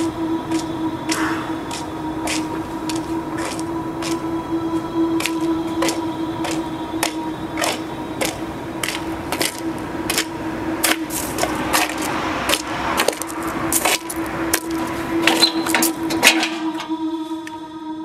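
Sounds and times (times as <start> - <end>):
footsteps on pavement: 0.0 - 16.0
steady low hum: 0.0 - 18.0.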